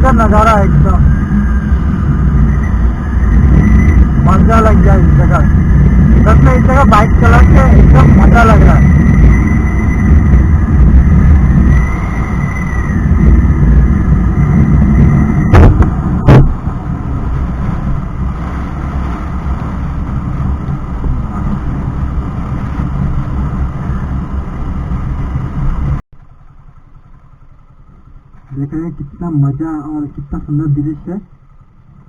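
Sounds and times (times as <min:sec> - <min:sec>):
heavy rushing wind noise: 0:00.0 - 0:26.0
motorcycle engine running: 0:00.0 - 0:29.9, 0:31.2 - 0:32.0
low pulsing: 0:00.0 - 0:32.0.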